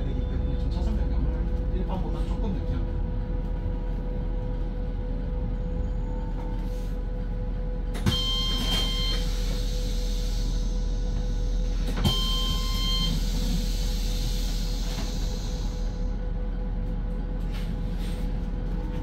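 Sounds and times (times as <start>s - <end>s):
bus cabin rumble: 0.0s - 19.0s.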